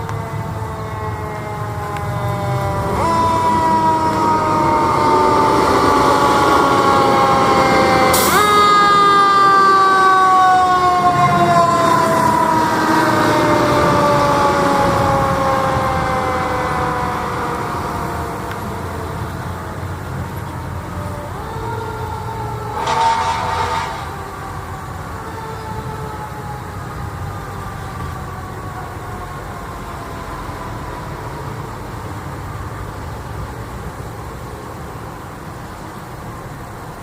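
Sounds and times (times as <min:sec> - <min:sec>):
fire truck siren: 0:00.0 - 0:37.0.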